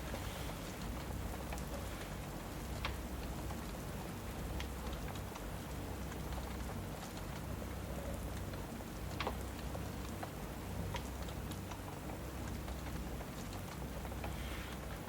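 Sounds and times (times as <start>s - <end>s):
fireplace crackling and popping: 0.0s - 15.0s
steady rain: 0.0s - 15.0s.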